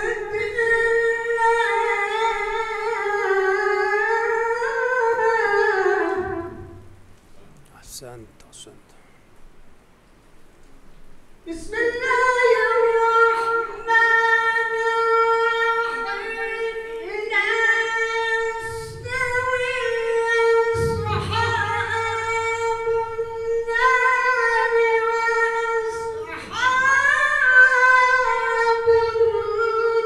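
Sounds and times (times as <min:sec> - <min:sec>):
man chanting into a microphone: 0:00.0 - 0:06.8, 0:11.5 - 0:30.0.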